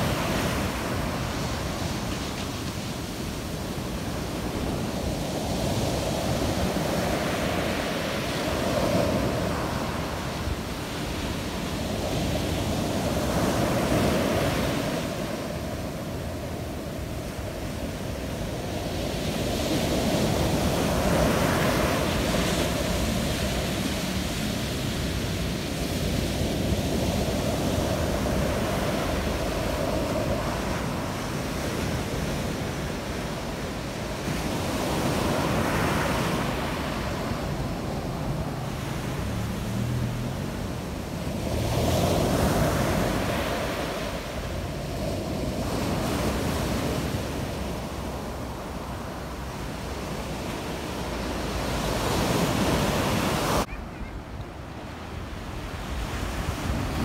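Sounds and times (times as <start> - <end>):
surf washing up pebble beach: 0.0 - 54.0.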